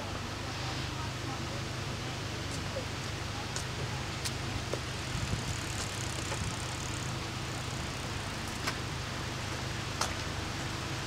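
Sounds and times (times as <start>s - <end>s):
road vehicles idling: 0.0s - 11.0s.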